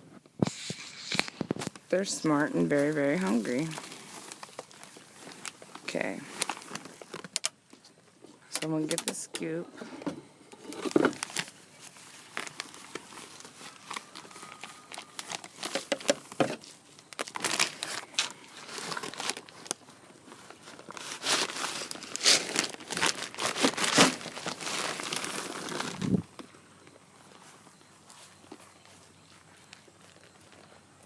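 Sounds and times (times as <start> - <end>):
feed bag crinkling and rustling: 0.4 - 31.0.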